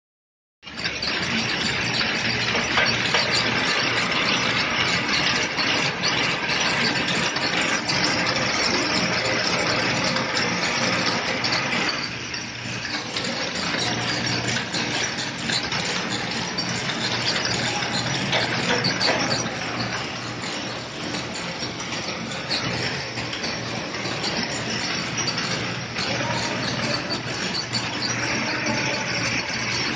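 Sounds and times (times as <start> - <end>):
braiding machine clattering: 0.6 - 29.9
low machine hum: 0.9 - 29.9.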